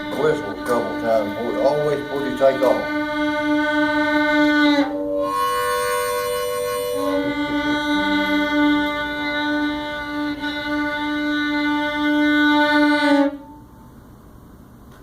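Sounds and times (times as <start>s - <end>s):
fiddle bowing long notes: 0.0s - 13.9s.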